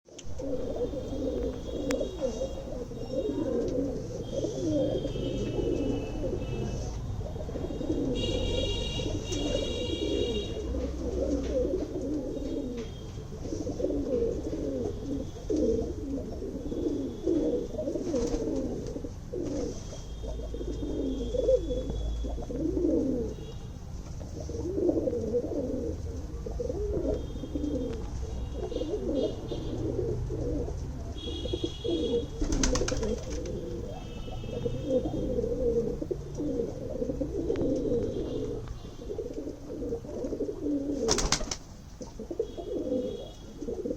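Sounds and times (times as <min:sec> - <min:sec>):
pigeons cooing: 0:00.1 - 0:23.6, 0:24.2 - 0:43.9.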